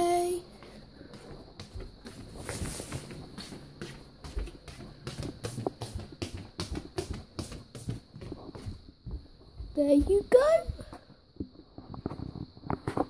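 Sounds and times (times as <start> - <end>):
footsteps on wooden floor: 0.0 - 11.2.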